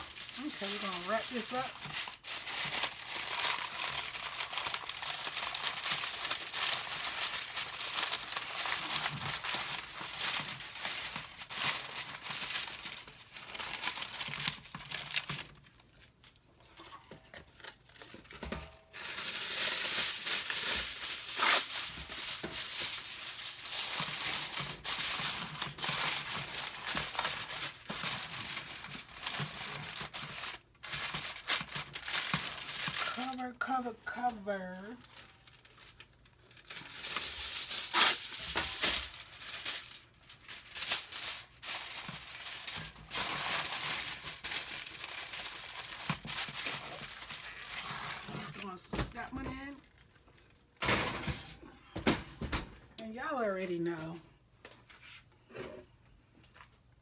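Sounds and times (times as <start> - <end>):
kitchen wrap crinkling: 0.0 - 51.6.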